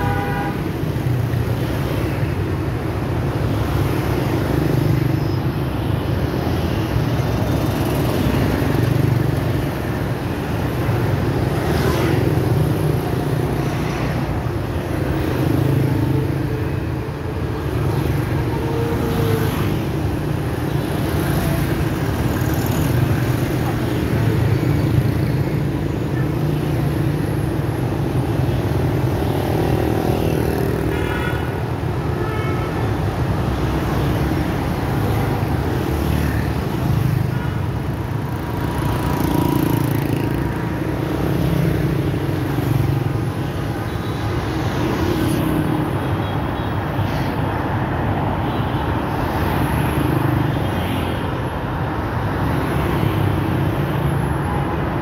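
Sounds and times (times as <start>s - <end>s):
motor-scooter engines: 0.0s - 32.1s, 32.8s - 55.0s.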